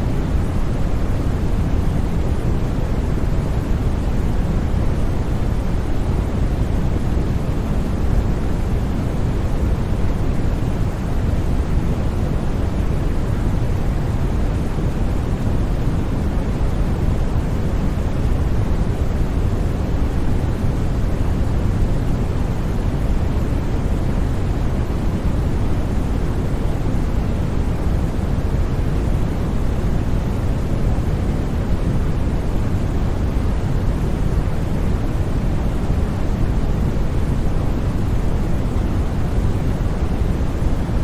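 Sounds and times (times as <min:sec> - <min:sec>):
deep white noise hiss: 0:00.0 - 0:41.0.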